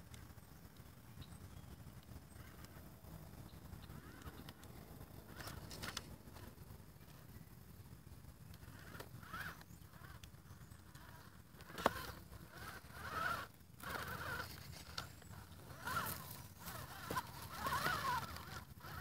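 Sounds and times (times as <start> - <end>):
electric motor and gears whining: 2.3 - 19.0.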